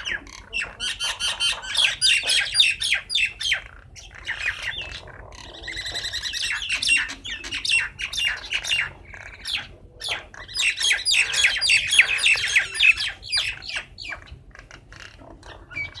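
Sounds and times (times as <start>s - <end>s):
birds squawking and chirping: 0.0s - 16.0s.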